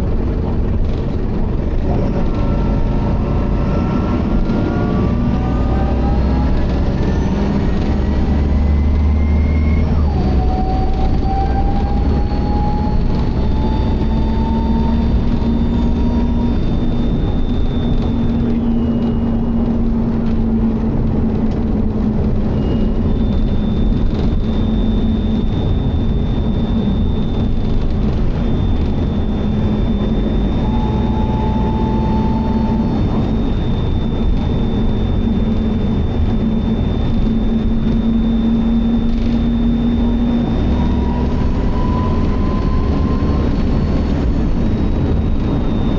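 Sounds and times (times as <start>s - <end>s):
bus engine drone: 0.0s - 45.9s
gearbox whine rising in pitch: 0.0s - 45.9s
thin high-pitched whine: 2.0s - 45.9s.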